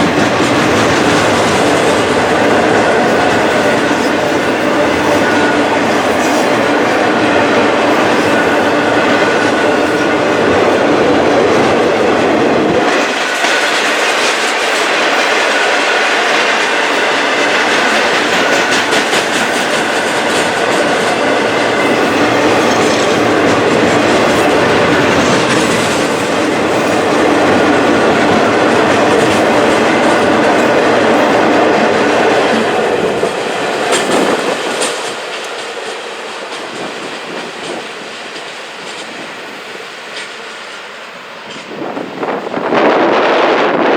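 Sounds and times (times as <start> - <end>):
wheels clicking over rail joints: 0.0 - 41.9
freight train rumbling past: 0.0 - 43.9.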